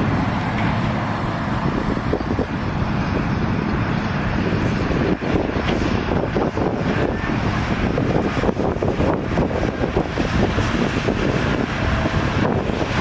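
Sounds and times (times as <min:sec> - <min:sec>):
heavy diesel machinery rumbling: 0:00.0 - 0:13.0.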